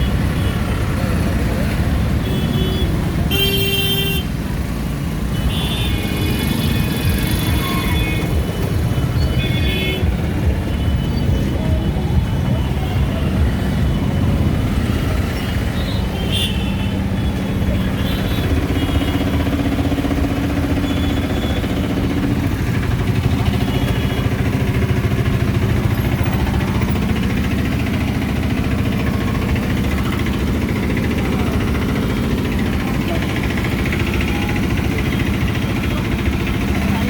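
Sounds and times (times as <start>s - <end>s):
vehicle engines rumbling in traffic: 0.0s - 37.0s.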